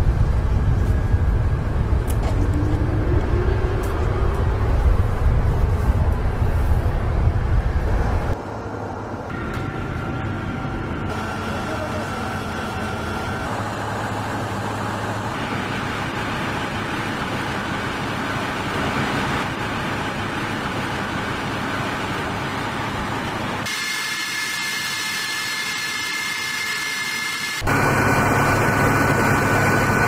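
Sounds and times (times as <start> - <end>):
jet engine rumble: 0.0 - 24.2
jet engine high whine: 0.0 - 30.0.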